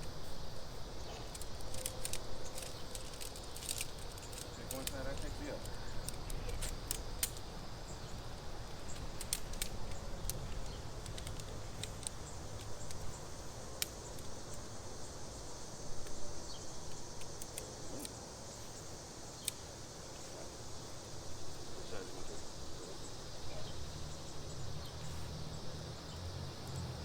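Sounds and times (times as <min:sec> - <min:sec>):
tent poles clicking and rustling: 0:00.0 - 0:15.2, 0:15.8 - 0:22.8
insect chirring: 0:00.0 - 0:27.0.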